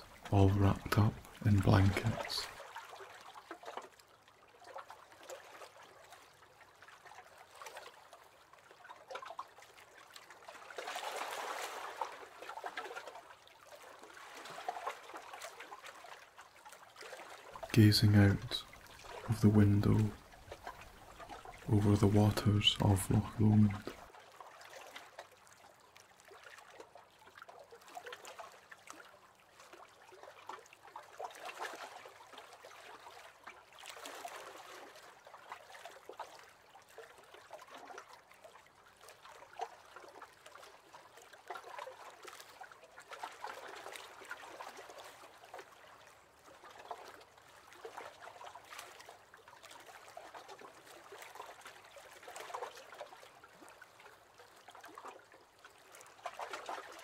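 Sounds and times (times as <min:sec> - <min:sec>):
waves lapping against boat hull: 0:00.0 - 0:57.0.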